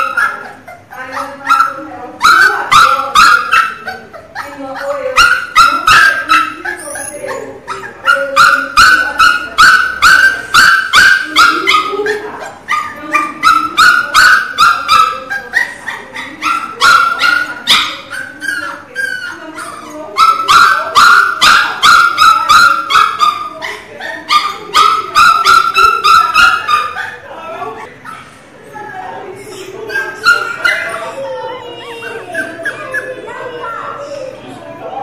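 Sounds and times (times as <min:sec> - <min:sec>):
puppy yelping and whimpering: 0:00.0 - 0:34.5.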